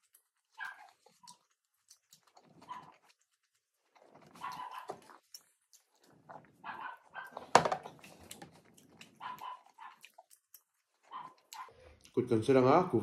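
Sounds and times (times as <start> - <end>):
chewing and lip-smacking: 0.0 - 12.6.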